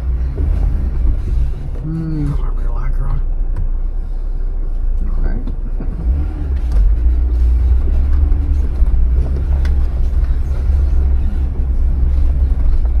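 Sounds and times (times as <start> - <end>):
vehicle engine deep rumble: 0.0 - 13.0.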